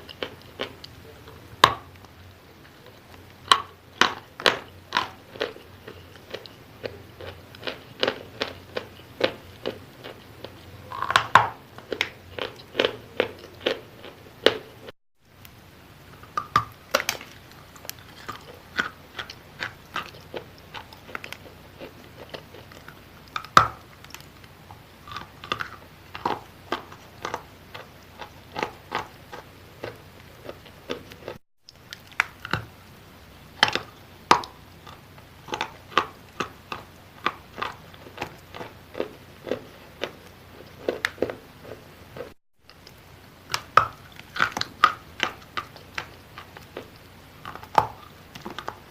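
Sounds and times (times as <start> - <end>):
chewing wet chalk crunches: 0.0 - 14.7, 16.2 - 32.8, 33.6 - 48.9.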